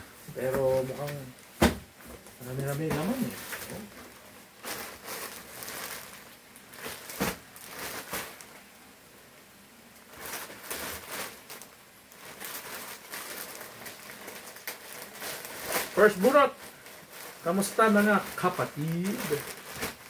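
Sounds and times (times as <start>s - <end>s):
plastic bag rustling and crinkling: 0.1s - 8.7s, 10.0s - 20.0s.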